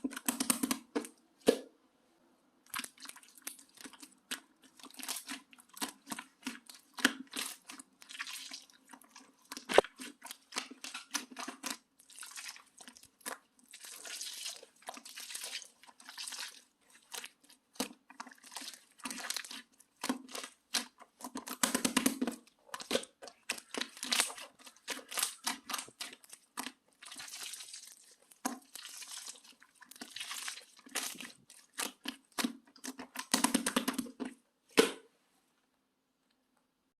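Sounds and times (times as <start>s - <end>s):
slime squished by hand: 2.7s - 35.1s.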